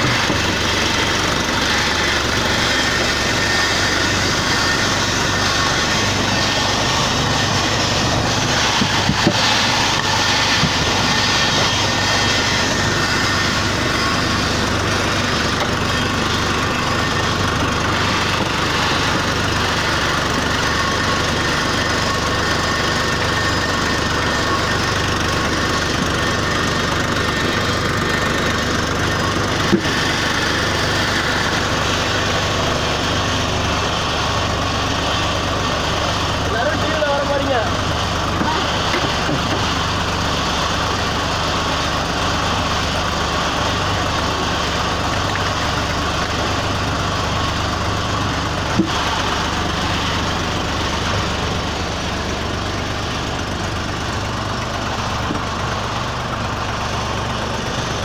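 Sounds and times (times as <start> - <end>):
brick extruder machine running: 0.0 - 58.0.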